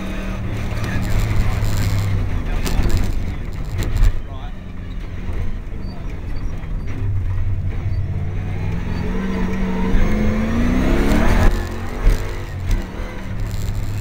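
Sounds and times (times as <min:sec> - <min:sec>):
engine rumbling and revving: 0:00.0 - 0:14.0.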